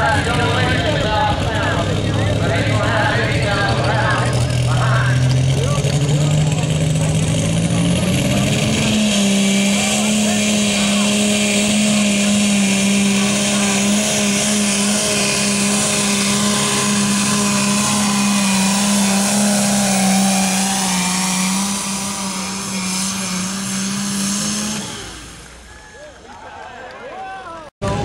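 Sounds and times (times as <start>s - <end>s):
tractor engine running flat out: 0.0s - 26.2s.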